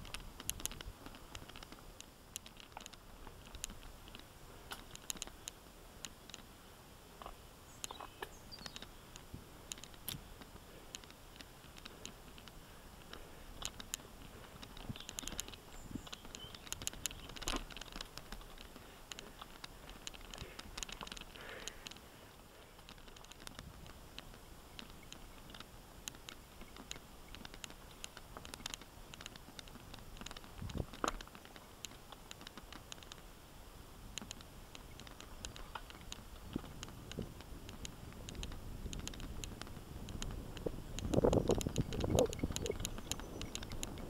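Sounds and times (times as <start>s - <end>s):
bike clicks and rattles: 0.0s - 6.5s, 7.2s - 33.3s, 34.0s - 44.0s.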